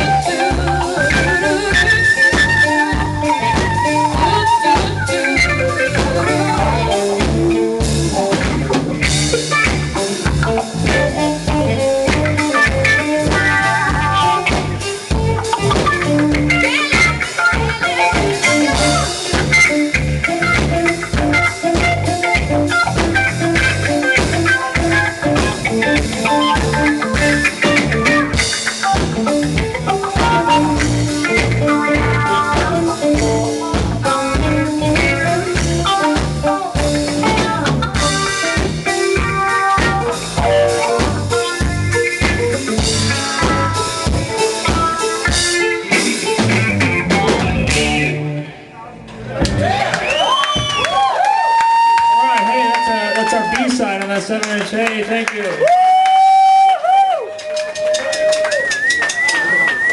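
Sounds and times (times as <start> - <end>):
drum kit beat: 0.0 - 48.3, 49.3 - 59.9
electric guitar: 0.0 - 59.9.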